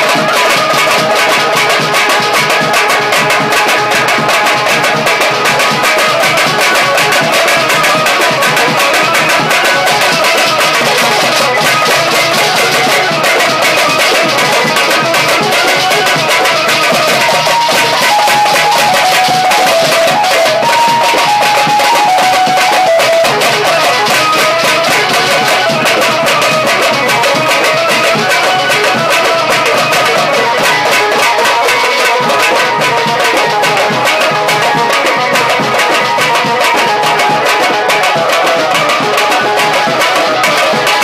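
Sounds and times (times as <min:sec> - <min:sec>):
barrel drums beaten fast: 0:00.0 - 0:41.0
melody of held notes: 0:00.0 - 0:41.0.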